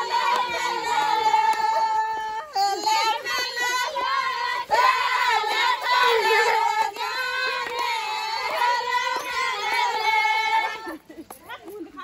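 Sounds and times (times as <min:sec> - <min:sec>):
hand claps: 0:00.0 - 0:02.1, 0:03.3 - 0:11.8
women singing folk song: 0:00.0 - 0:11.2.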